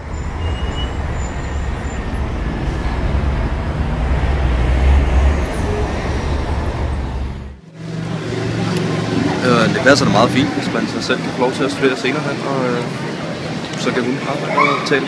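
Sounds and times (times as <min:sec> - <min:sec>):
road traffic rumble: 0:00.0 - 0:15.0
street ambience: 0:00.0 - 0:15.0.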